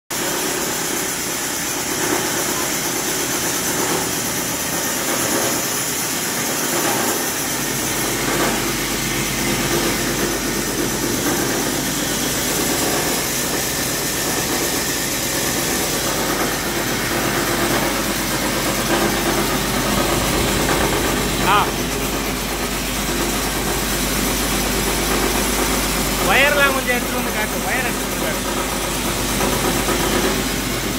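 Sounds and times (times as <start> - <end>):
granulator machine drone with hiss: 0.2 - 30.9.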